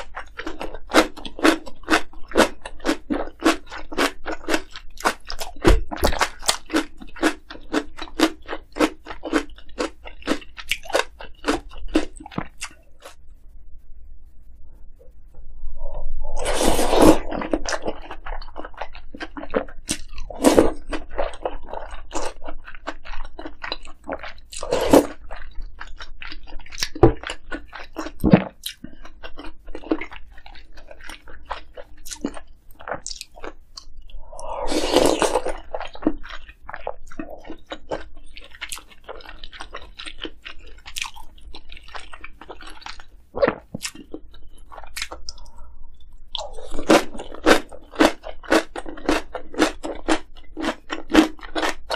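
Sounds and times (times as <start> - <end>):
wet chewing: 0.0 - 13.3, 15.9 - 51.9.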